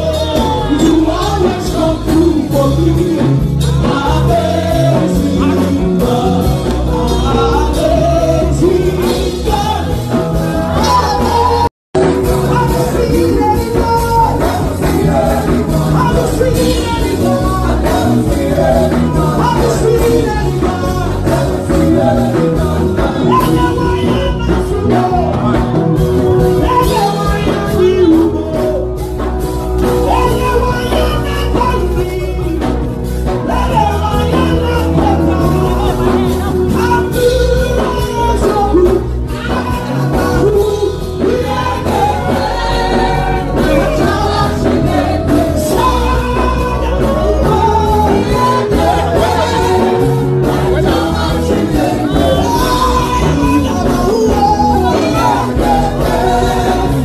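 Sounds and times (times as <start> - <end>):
song with singing voice: 0.0 - 57.0
steady bass beat: 0.0 - 57.0.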